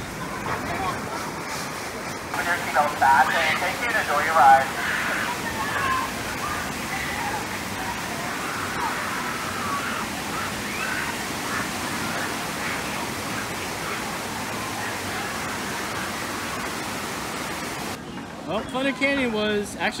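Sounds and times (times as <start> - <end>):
water rushing and splashing: 0.0 - 18.0
faint voices: 0.0 - 20.0.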